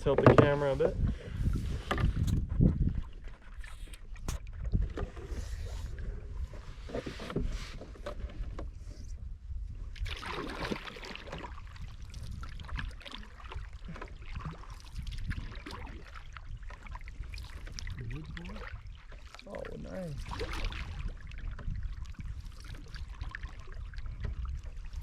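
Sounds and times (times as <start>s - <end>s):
paddle strokes splashing water: 0.2s - 9.0s, 9.9s - 25.0s.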